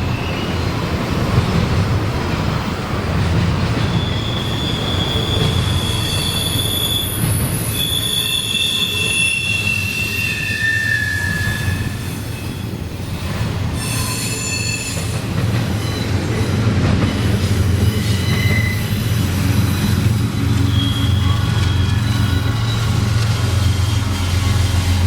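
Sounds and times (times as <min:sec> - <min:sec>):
freight train rumbling past: 0:00.0 - 0:25.0
train wheels squealing on rails: 0:00.0 - 0:25.0.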